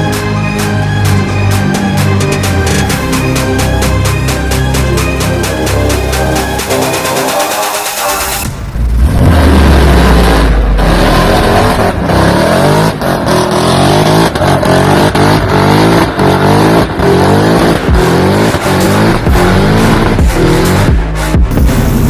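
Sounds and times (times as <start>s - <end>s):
truck engine rumbling and revving: 0.0s - 22.0s.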